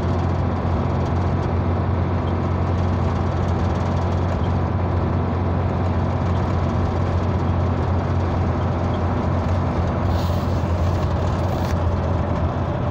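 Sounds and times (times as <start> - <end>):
car tyre and engine rumble: 0.0 - 12.9.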